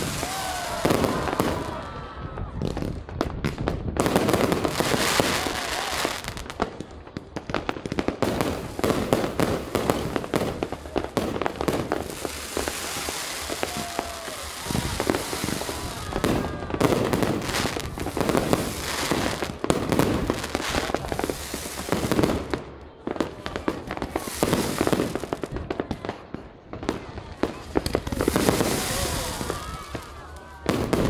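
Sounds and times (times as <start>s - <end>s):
fireworks bursting: 0.0s - 31.0s
fireworks crackling: 0.0s - 31.0s.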